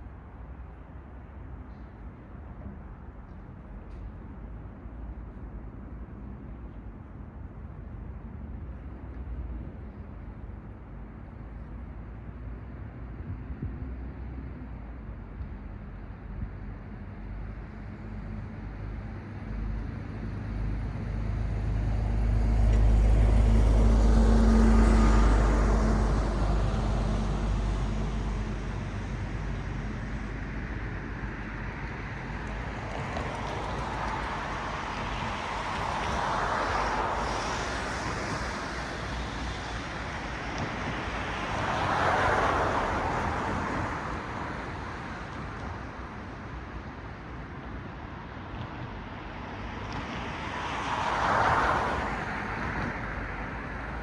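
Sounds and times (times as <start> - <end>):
cars passing on a road: 0.0 - 54.0.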